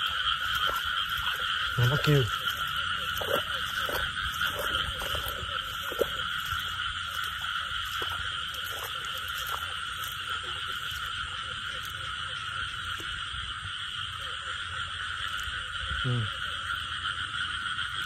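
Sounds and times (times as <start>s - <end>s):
frogs calling: 0.0s - 18.0s
insects trilling: 0.0s - 18.0s.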